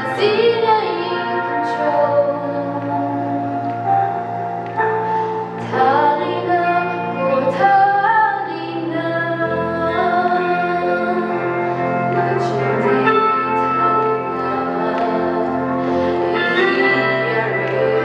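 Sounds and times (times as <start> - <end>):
woman singing: 0.0 - 3.8, 5.6 - 18.0
sustained instrumental accompaniment: 0.0 - 18.0.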